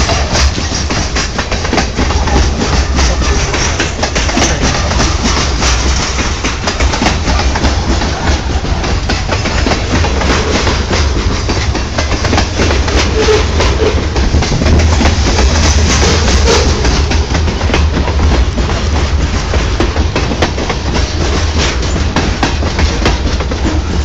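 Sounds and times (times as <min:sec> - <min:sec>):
freight train wheels rumbling: 0:00.0 - 0:24.0
wheels clacking over rail joints: 0:00.0 - 0:24.0.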